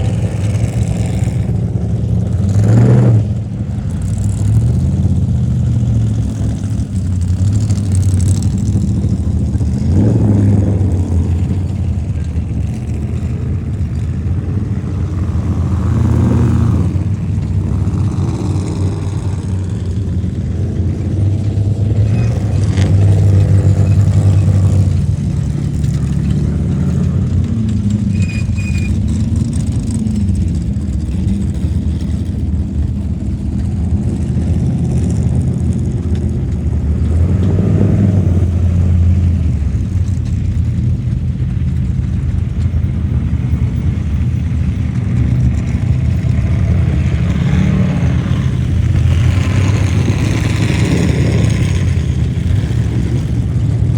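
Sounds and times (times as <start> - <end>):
engines revving: 0.0 - 53.9.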